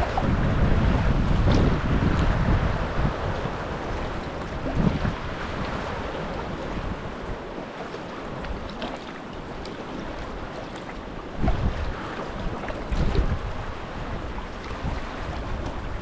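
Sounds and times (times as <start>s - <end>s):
wind blowing over microphone: 0.0s - 8.8s, 10.1s - 16.0s
sea washing around kayak: 0.0s - 16.0s.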